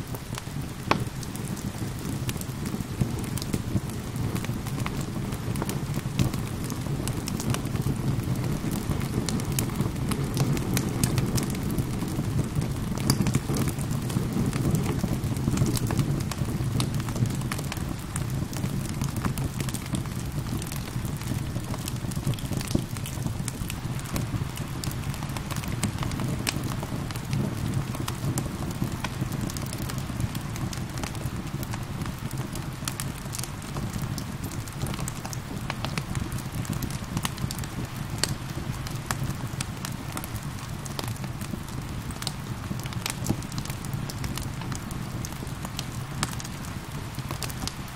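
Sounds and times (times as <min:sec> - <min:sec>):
rain: 0:00.0 - 0:47.9
wood fire crackling: 0:00.0 - 0:47.9.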